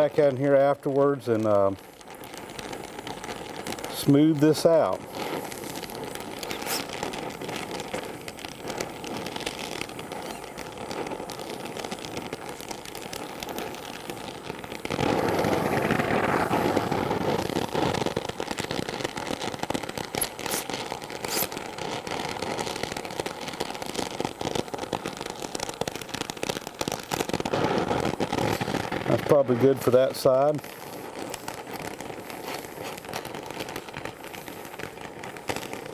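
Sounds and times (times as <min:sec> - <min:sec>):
sharp crackles and pops: 0:00.0 - 0:35.9
torch flame hissing: 0:00.0 - 0:35.9.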